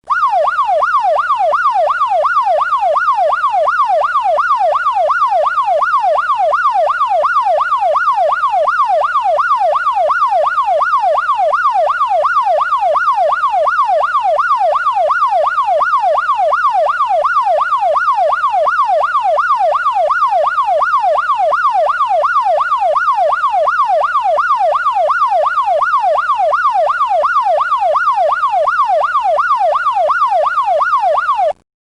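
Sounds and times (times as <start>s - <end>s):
police siren yelping: 0.1s - 31.6s.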